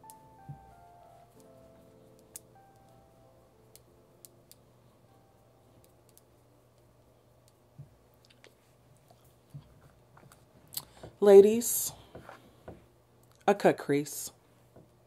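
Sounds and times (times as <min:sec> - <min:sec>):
soft music: 0:00.0 - 0:13.1.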